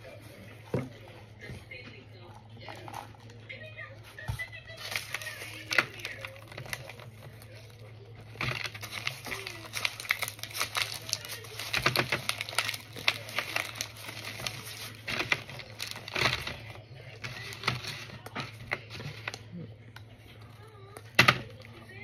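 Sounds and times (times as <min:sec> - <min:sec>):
crunching and chewing: 0:02.2 - 0:22.0.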